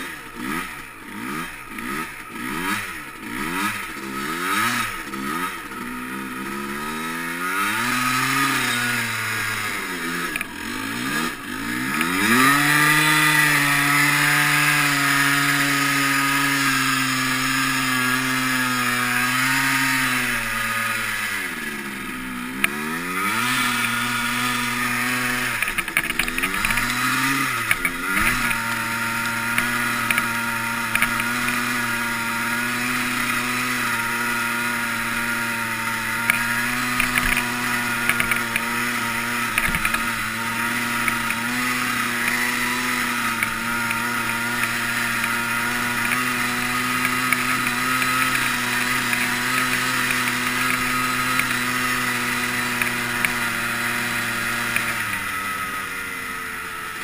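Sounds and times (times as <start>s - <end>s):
two-stroke engine at high revs: 0.0s - 57.0s.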